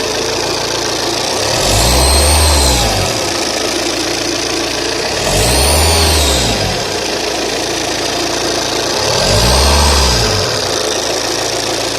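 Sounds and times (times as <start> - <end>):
diesel engine revving: 0.0 - 11.9
high turbo whine: 0.0 - 11.9.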